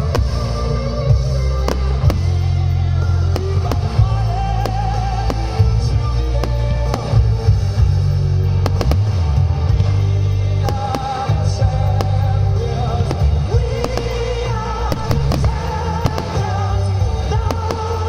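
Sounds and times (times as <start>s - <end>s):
firework shells bursting: 0.0s - 18.0s
loud music with heavy bass: 0.0s - 18.0s.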